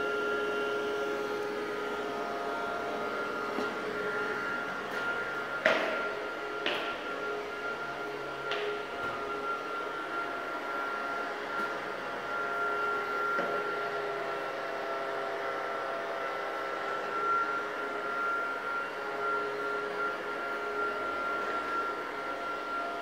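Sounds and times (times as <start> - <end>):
small fan whirring with high whine: 0.0 - 23.0.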